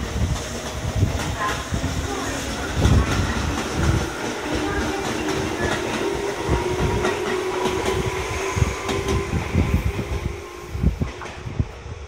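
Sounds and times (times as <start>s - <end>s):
electric train hum: 0.0s - 12.0s
train wheels rumbling: 0.0s - 12.0s.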